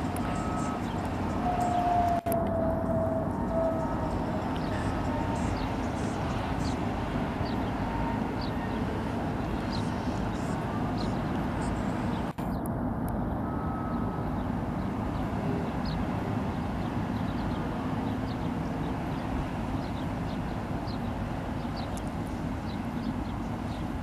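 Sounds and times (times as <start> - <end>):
low rumble of ships: 0.0 - 24.0.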